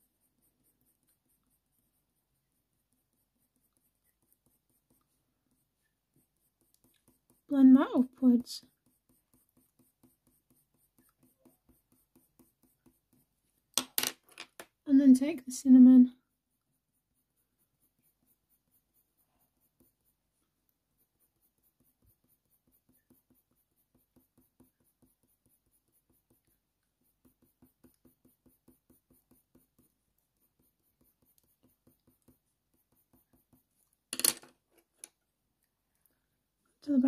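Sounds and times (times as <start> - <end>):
pencil strokes on paper: 0.0 - 13.7, 14.9 - 34.1.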